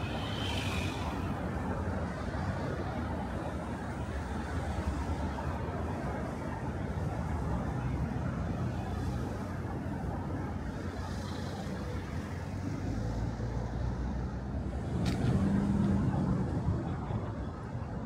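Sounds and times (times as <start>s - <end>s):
road traffic rumble: 0.0s - 18.0s
vehicle engine hum: 0.0s - 18.0s.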